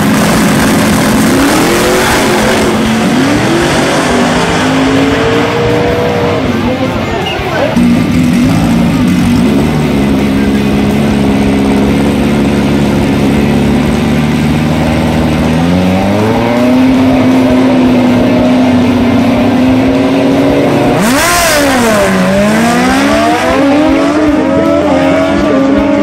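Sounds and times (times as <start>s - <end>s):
drag racing car engine revving: 0.0s - 26.0s.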